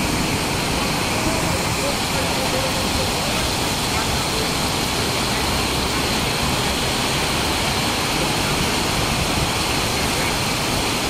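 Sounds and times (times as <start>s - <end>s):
heavy rain on pavement: 0.0s - 11.0s
tyres driving through water: 0.0s - 11.0s.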